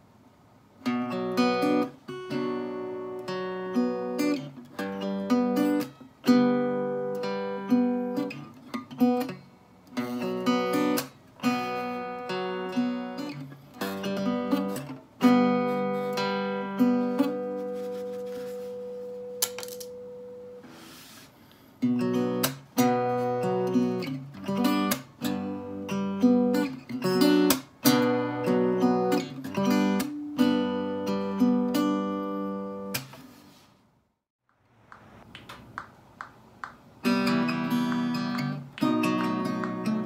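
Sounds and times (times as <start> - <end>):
acoustic guitar arpeggio: 0.8 - 19.4, 21.8 - 33.1, 36.9 - 40.0.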